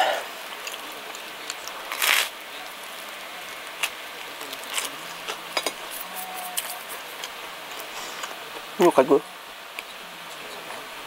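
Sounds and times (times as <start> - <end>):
room noise hiss: 0.0 - 11.0.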